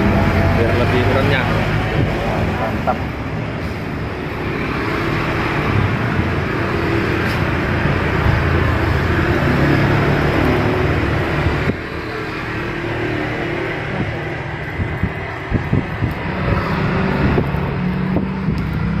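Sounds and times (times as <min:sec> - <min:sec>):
road traffic passing: 0:00.0 - 0:19.0
vehicle engine low rumble: 0:00.0 - 0:19.0.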